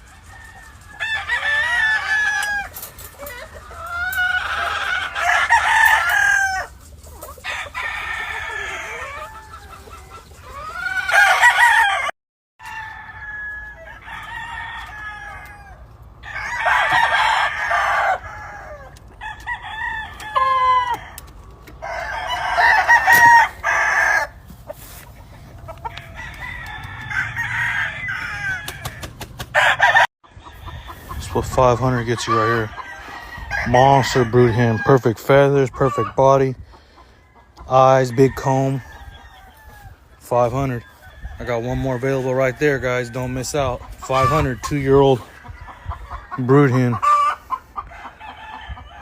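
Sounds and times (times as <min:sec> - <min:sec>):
hens clucking: 0:00.0 - 0:12.1, 0:13.9 - 0:49.0
roosters crowing: 0:00.0 - 0:49.0.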